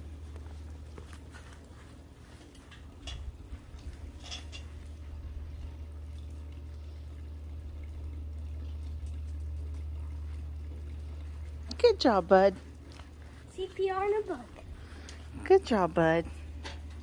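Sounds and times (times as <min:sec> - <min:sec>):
faint trickling water: 0:00.0 - 0:17.0
steady low hum: 0:00.0 - 0:17.0.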